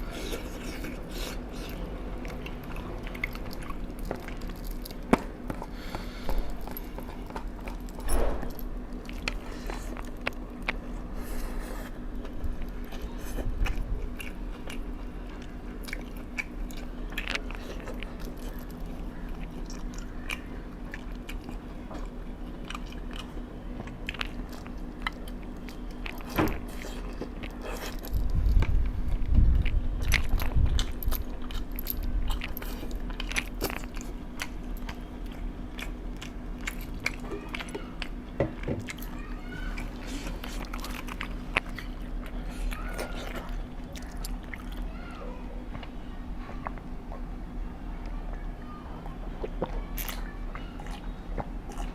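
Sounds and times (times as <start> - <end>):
chewing and biting food: 0.0 - 45.0, 48.0 - 51.9
steady low hum: 0.0 - 51.9.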